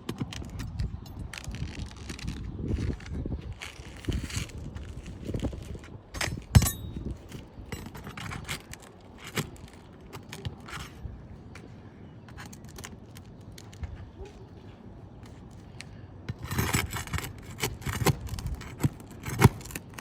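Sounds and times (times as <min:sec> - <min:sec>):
shingles scraping and crackling: 0:00.0 - 0:11.7, 0:15.2 - 0:20.0.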